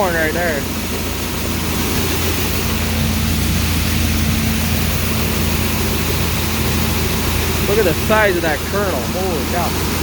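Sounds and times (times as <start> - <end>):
constant rushing noise: 0.0 - 10.0
farm machinery engine hum: 0.0 - 10.0.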